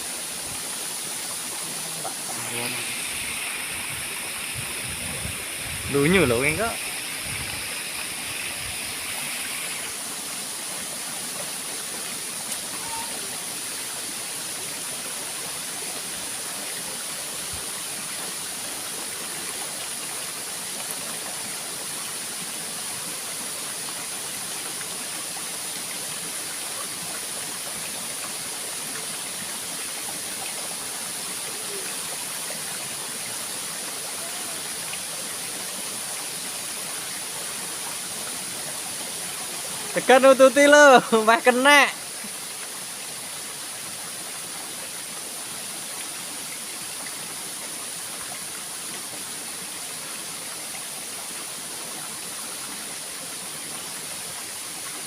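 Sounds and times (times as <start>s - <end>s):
constant high hiss: 0.0s - 55.0s
waterfall rushing: 0.0s - 55.0s.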